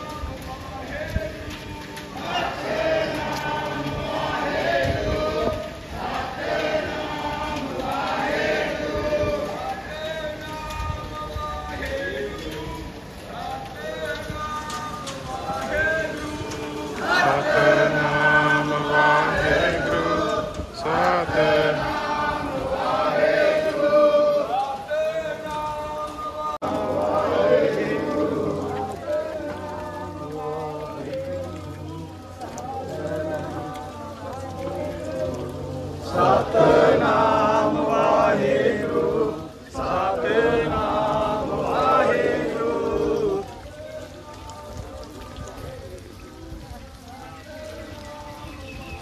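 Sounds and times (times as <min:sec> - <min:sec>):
chanted singing: 0:00.0 - 0:49.0.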